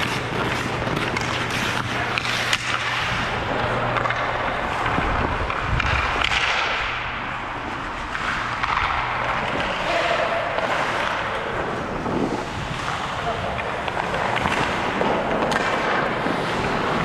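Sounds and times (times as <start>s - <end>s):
hockey stick or puck clicks: 0.0s - 3.2s, 3.9s - 7.0s, 7.9s - 11.4s, 12.8s - 17.0s
skates scraping on ice: 0.0s - 17.0s.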